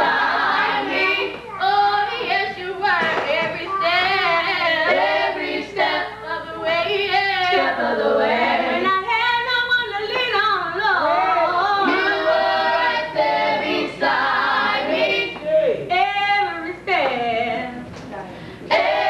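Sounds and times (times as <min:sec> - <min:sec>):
women singing gospel: 0:00.0 - 0:19.0.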